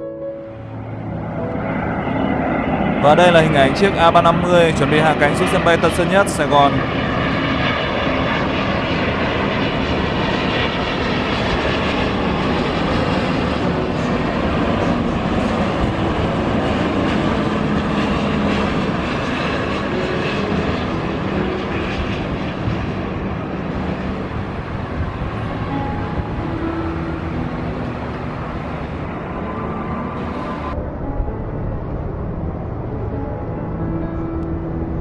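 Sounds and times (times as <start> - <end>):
jet airliner rumble: 0.0 - 35.0.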